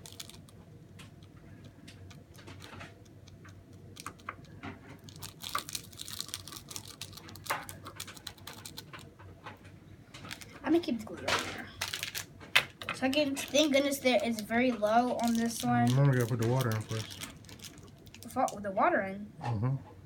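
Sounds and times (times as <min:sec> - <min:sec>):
plastic parts clicking and tapping: 0:00.0 - 0:17.8.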